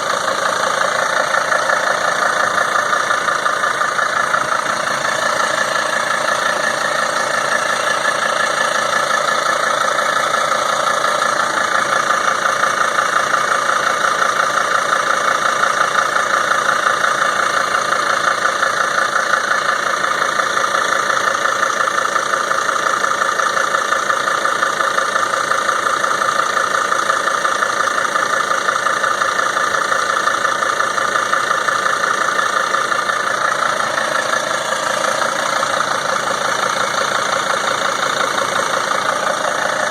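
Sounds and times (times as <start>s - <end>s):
van engine idling with knocking: 0.0s - 39.9s.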